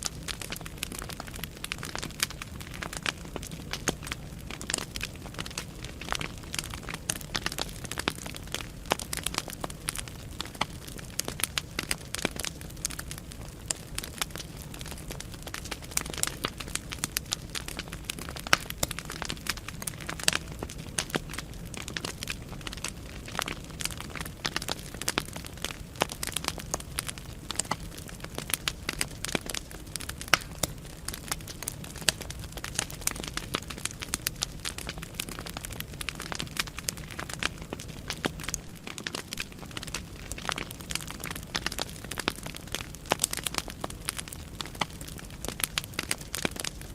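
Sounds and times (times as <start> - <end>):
firewood crackling and popping: 0.0 - 46.9
low rush of flame: 0.0 - 46.9.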